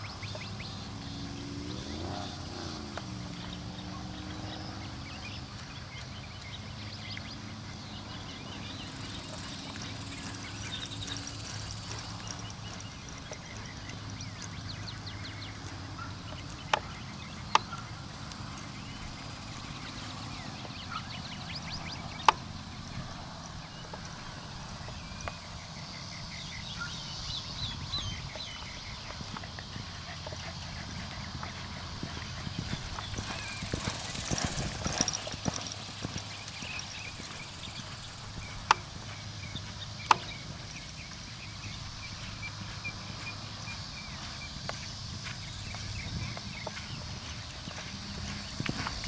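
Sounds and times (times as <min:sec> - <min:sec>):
horse hoofbeats on dirt: 0:00.0 - 0:49.0
steady low hum: 0:00.0 - 0:49.0
high chirping calls: 0:02.2 - 0:49.0.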